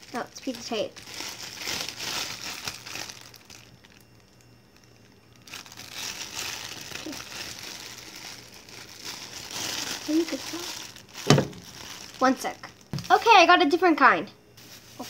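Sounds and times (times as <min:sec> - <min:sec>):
plastic packaging crinkling: 0:00.0 - 0:13.4, 0:14.6 - 0:15.0.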